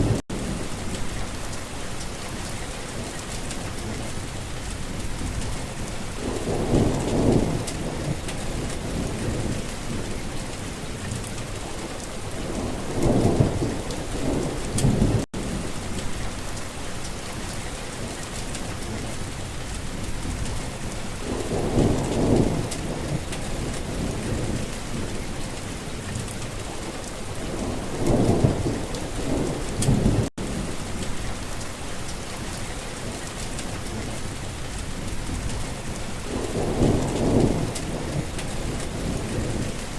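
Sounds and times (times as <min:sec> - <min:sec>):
rolling thunder: 0:00.0 - 0:01.5, 0:04.8 - 0:16.6, 0:19.9 - 0:31.6, 0:32.7 - 0:39.9
steady rain: 0:00.0 - 0:39.9.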